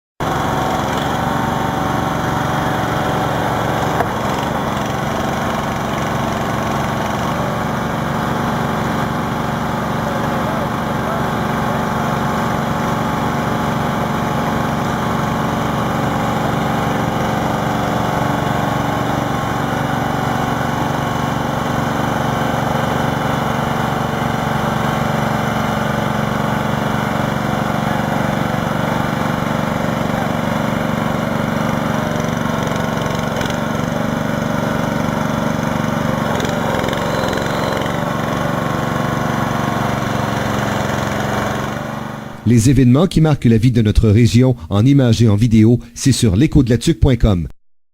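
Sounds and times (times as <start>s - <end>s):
engine idling: 0.2s - 42.5s.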